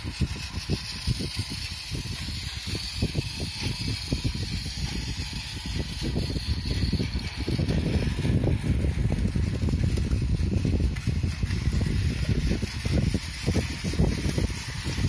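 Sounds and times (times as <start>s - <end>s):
toy train motor whirring: 0.0s - 15.0s
wheels clicking over track joints: 0.0s - 15.0s.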